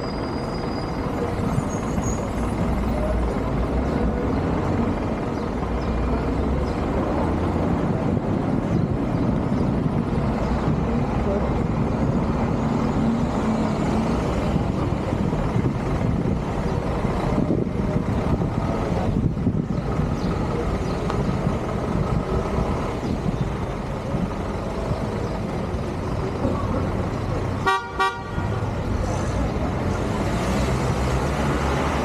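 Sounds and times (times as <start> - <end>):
vehicle engine and road noise: 0.0 - 32.0.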